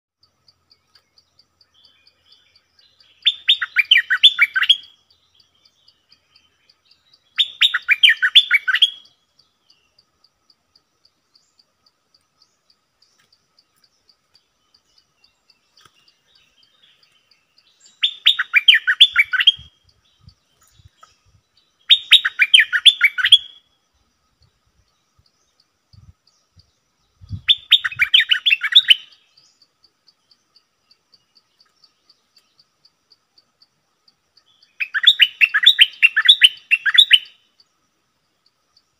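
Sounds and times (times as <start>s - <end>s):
faint insect ticking: 0.2s - 38.9s.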